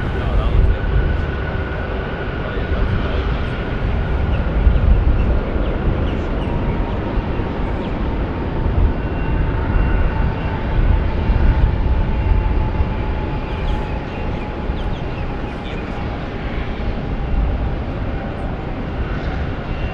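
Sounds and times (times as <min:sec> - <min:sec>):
faint engine whine: 0:00.0 - 0:19.9
jet engines rumbling: 0:00.0 - 0:19.9.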